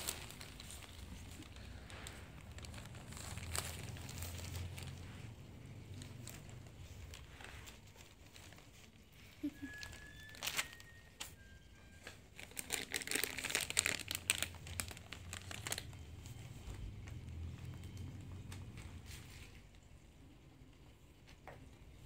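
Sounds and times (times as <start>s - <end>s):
newspaper and plastic crinkling: 0.0s - 19.9s.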